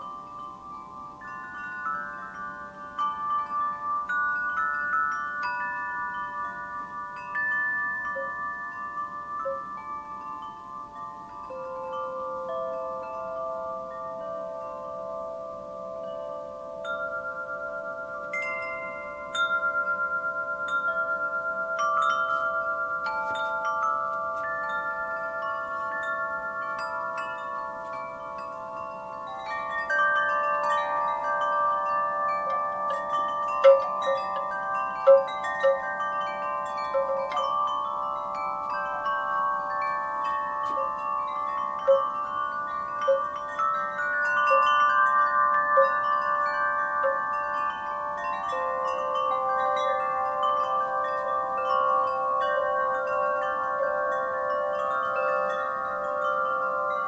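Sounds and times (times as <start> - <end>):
wind chimes ringing: 0.0 - 57.0.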